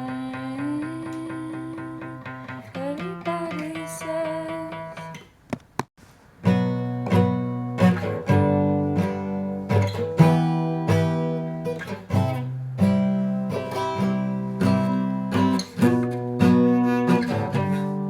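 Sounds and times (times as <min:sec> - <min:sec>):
acoustic guitar strumming chords: 0:00.0 - 0:05.2, 0:06.4 - 0:18.0.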